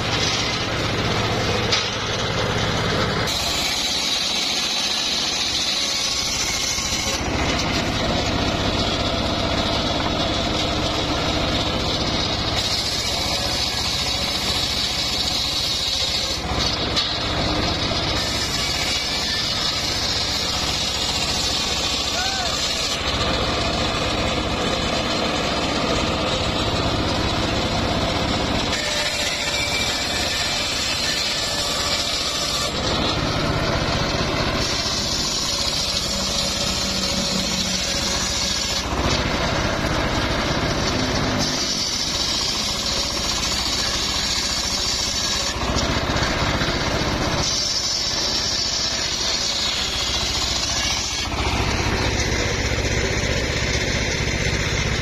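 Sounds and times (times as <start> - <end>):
saw blade ripping wood: 0.0 - 54.4
circular saw running: 0.0 - 55.0.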